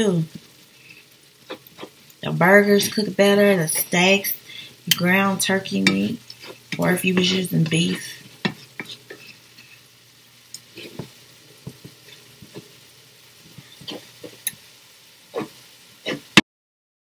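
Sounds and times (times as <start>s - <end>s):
meat sizzling: 0.0s - 16.4s
spatula scraping cast iron skillet: 0.6s - 10.0s, 10.6s - 14.6s, 15.3s - 16.4s.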